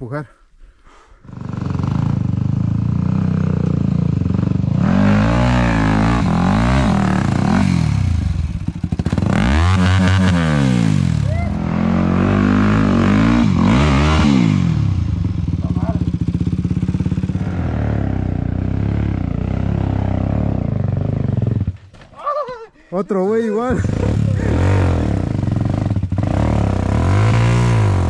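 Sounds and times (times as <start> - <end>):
dirt bike engine revving: 1.2 - 21.8, 23.6 - 28.0.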